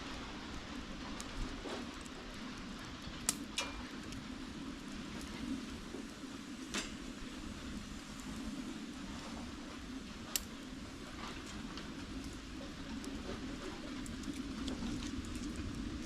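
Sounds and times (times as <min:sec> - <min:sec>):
campfire burning: 0:00.0 - 0:16.0
fire crackling pops: 0:00.0 - 0:16.0.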